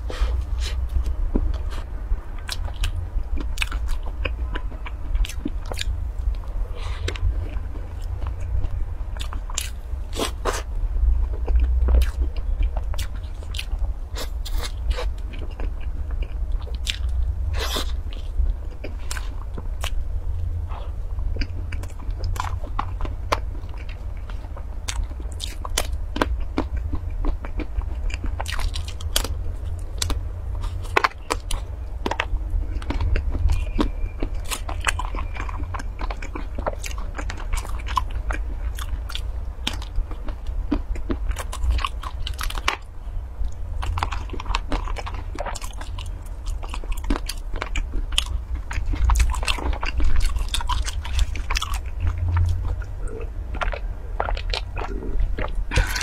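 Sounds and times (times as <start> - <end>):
person chewing food: 0.0 - 56.0
steady low hum: 0.0 - 56.0.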